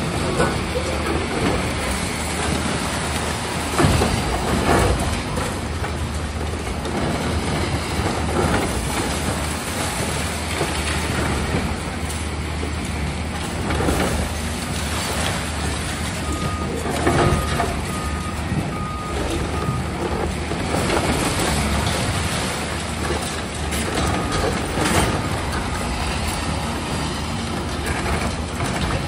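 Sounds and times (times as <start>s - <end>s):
excavator diesel engines running: 0.0s - 29.0s.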